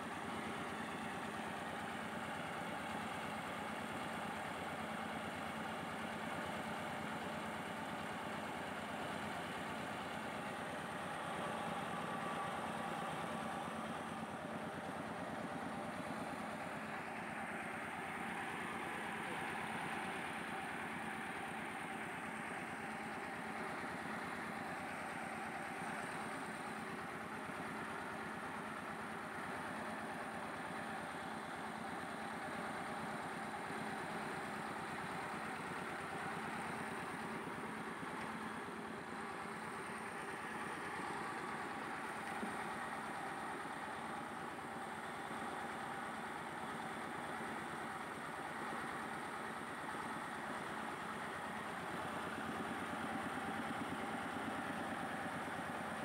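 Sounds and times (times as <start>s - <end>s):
rice huller machine running: 0.0s - 56.0s.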